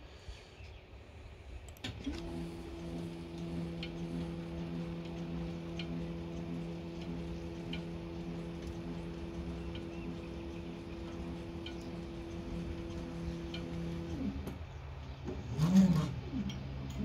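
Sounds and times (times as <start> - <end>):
stepper motors humming: 1.7 - 17.0.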